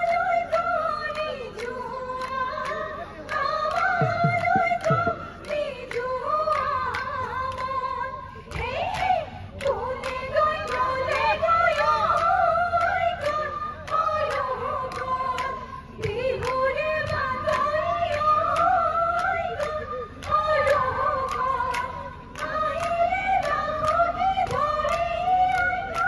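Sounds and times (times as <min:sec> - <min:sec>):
women singing in unison: 0:00.0 - 0:26.0.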